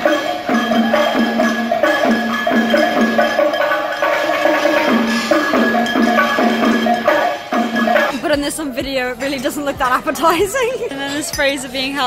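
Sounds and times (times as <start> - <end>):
upbeat music: 0.0 - 12.0.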